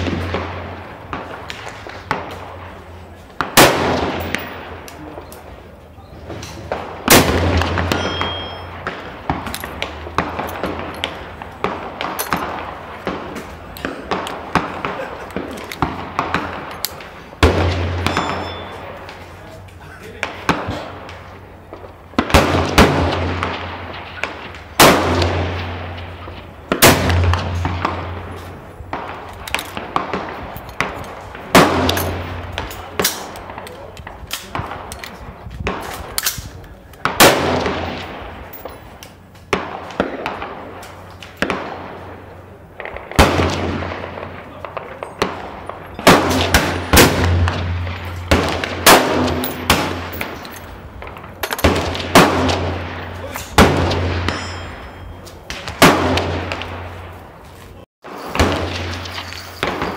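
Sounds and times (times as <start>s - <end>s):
gunshots echoing: 0.0s - 57.4s, 58.1s - 59.9s.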